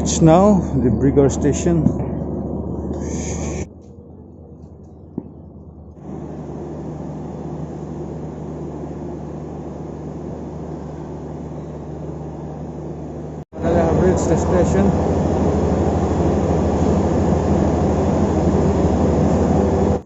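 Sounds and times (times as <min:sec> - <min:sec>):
constant hum: 0:00.0 - 0:20.0
low machine drone: 0:00.0 - 0:20.0.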